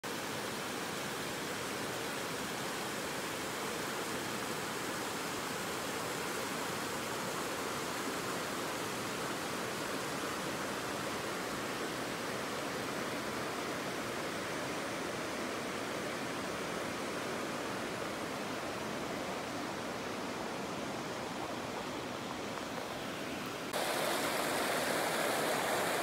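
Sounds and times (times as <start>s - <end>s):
creek water rushing over rocks: 0.0s - 26.0s.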